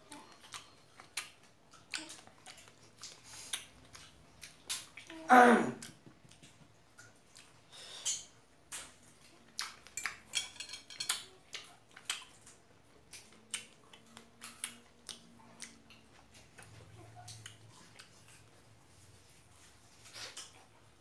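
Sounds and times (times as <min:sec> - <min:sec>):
person chewing strawberry: 0:00.0 - 0:10.4, 0:11.0 - 0:21.0.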